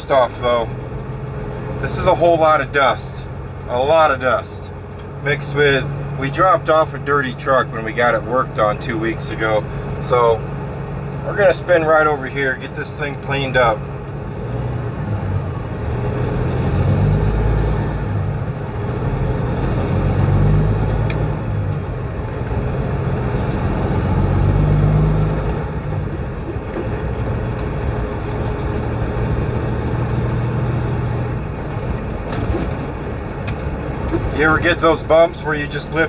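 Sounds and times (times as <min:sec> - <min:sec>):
road noise: 0:00.0 - 0:36.0
truck diesel engine running: 0:00.0 - 0:36.0.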